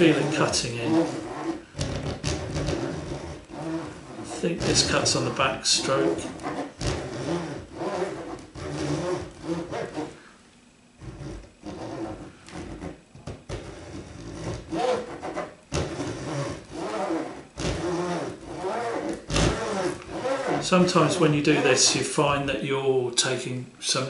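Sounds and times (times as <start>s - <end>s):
saw rasping through wood: 0.0s - 10.2s, 11.0s - 22.4s.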